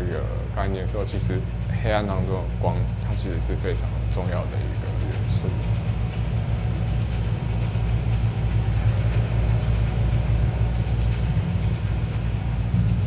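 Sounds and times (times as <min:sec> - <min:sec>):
deep electronic drone: 0:00.0 - 0:13.0.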